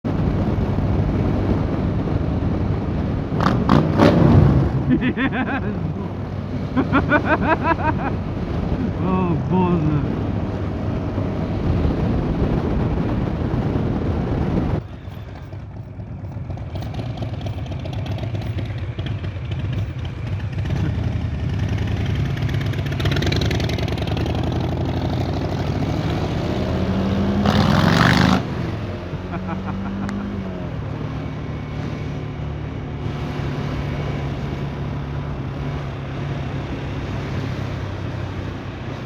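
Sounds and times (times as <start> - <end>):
motorcycle engine rumbling: 0.1 - 39.0.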